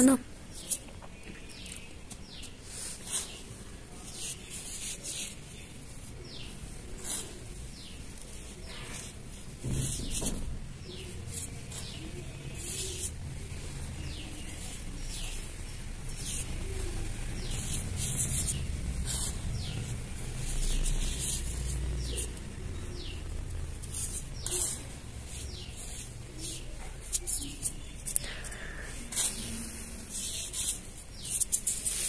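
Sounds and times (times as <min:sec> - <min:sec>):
fingers swishing through cement powder: 0:02.2 - 0:32.0.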